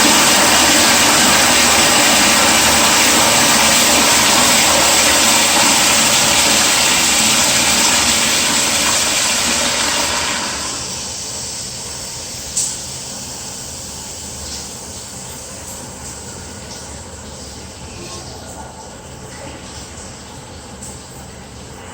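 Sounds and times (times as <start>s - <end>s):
toilet flushing: 0.0s - 21.9s.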